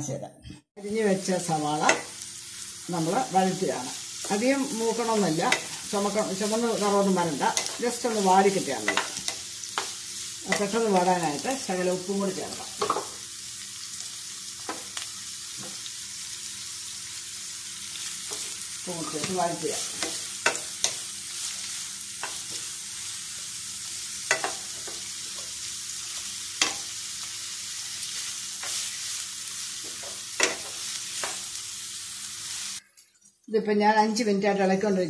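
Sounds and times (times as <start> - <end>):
onions sizzling in frying pan: 0.8 - 32.8.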